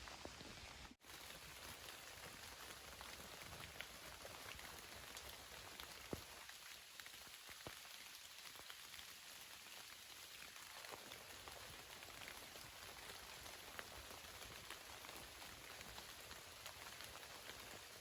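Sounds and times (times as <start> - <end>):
steady rain: 0.0 - 18.0
heavy raindrops ticking close by: 1.1 - 18.0.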